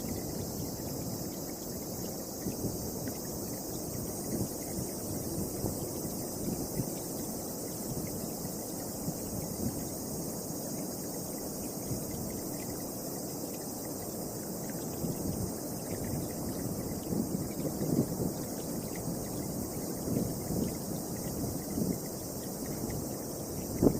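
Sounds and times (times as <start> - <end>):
wind buffeting microphone: 0.0 - 10.6, 14.9 - 23.9
insects chirring: 0.0 - 23.9.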